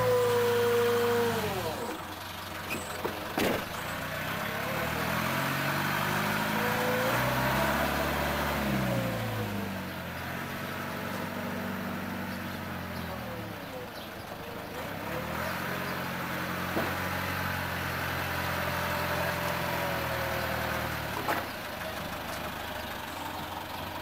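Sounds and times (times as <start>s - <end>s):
vehicle engine revving: 0.0s - 2.8s, 3.4s - 23.7s.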